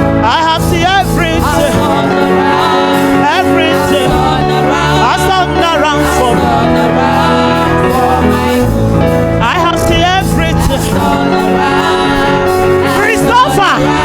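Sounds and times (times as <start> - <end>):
held instrumental chords: 0.0 - 14.0
person singing with vibrato: 0.0 - 14.0.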